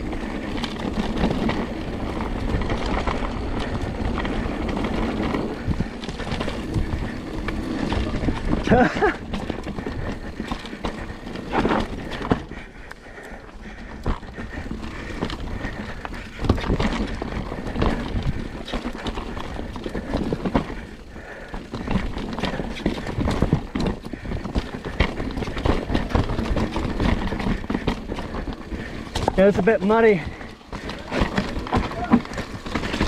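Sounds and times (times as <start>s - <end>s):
bike rattling over rough trail: 0.0s - 33.0s.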